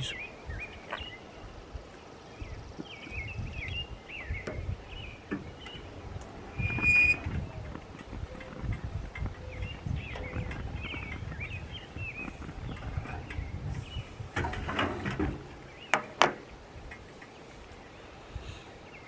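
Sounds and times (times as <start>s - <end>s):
small birds chirping: 0.0s - 19.0s
wind rumble on microphone: 0.0s - 19.0s.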